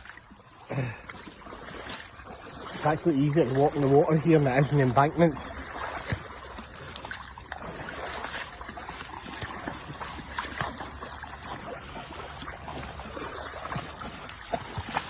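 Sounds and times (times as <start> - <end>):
footsteps wading through water: 0.0 - 15.0.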